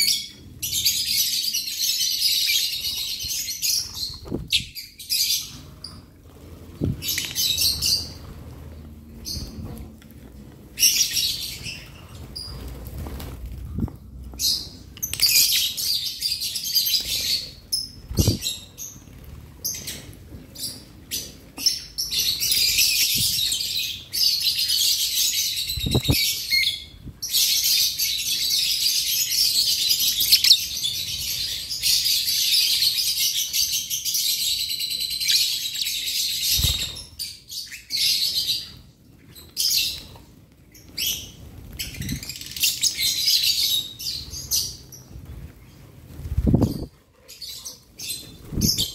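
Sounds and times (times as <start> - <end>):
lovebirds chattering and shrieking: 0.0 - 9.9, 10.7 - 48.9.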